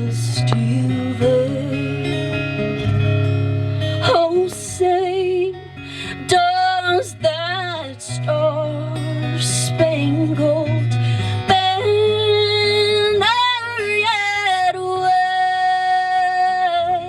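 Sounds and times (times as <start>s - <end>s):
guitar accompaniment: 0.0s - 17.0s.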